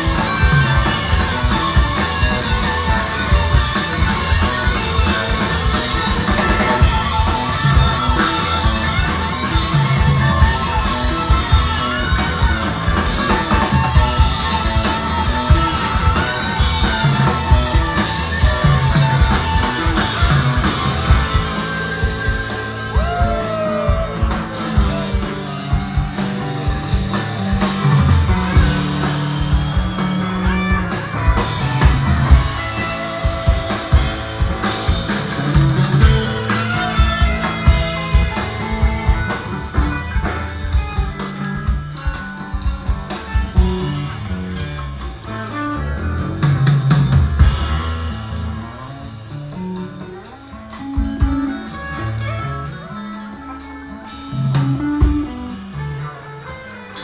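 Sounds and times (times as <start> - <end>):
drum kit: 0.0 - 57.0
electric bass: 0.0 - 57.0
electric guitars: 0.0 - 57.0.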